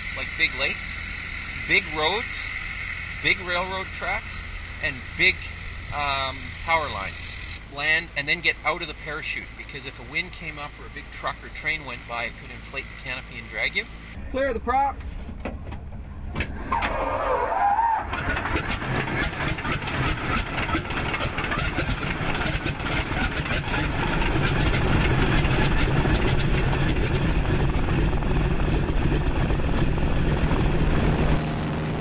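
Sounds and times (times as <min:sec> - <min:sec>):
radial engine starting and running: 0:00.0 - 0:14.8, 0:15.6 - 0:32.0.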